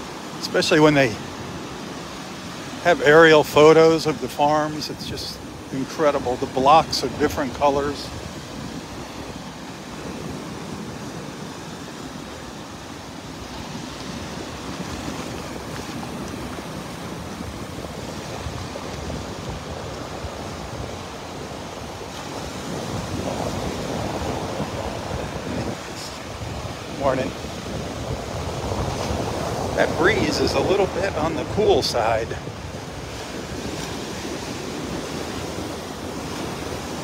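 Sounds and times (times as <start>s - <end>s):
ocean waves breaking: 0.0s - 37.0s
wind on microphone: 4.7s - 37.0s.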